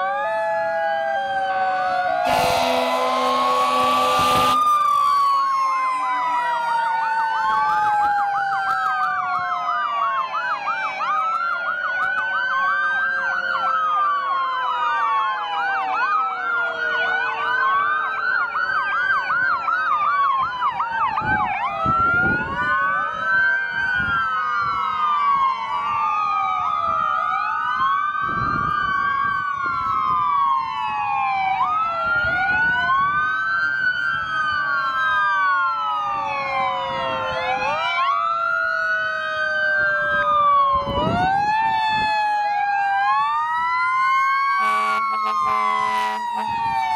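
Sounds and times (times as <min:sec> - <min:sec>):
wailing sirens: 0:00.0 - 0:46.9
yelping sirens: 0:00.0 - 0:46.9.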